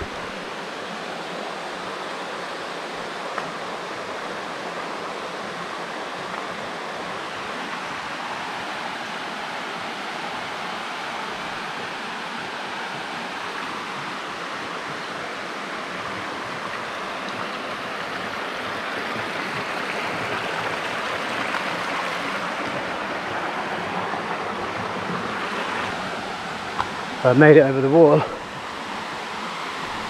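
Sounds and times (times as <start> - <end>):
stream and waterfall rushing: 0.0 - 30.0.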